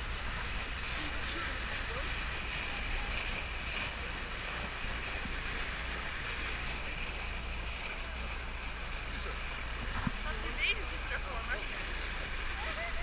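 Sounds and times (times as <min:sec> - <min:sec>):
steady low rumble: 0:00.0 - 0:13.0
water rushing at boat bow: 0:00.0 - 0:13.0.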